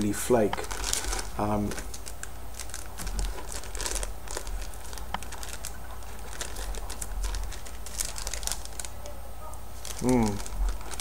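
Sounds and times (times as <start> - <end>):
low steady hum: 0.0 - 11.0
plastic bag crinkling: 0.0 - 11.0.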